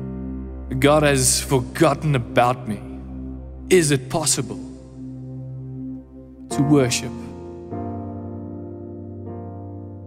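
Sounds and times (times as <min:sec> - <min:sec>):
keyboard sustained chords: 0:00.0 - 0:10.0.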